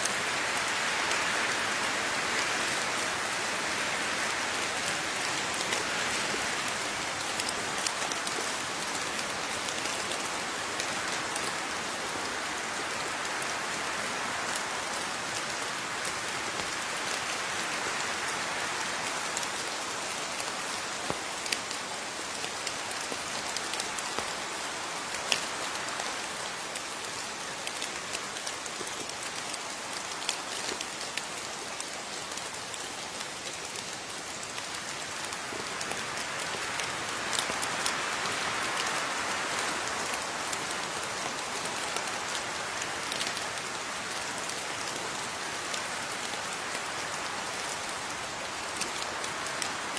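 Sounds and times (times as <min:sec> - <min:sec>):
rain pattering on a surface: 0:00.0 - 0:49.9.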